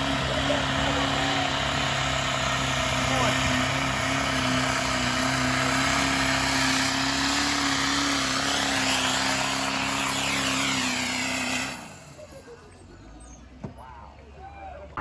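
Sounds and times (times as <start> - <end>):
tractor engine running flat out: 0.0 - 13.2.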